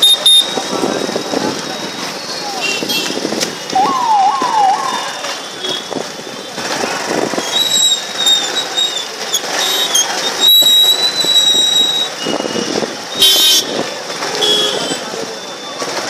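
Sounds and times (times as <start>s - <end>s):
engines: 0.0s - 16.0s
vehicle horns tooting: 0.0s - 16.0s
voices: 0.0s - 16.0s.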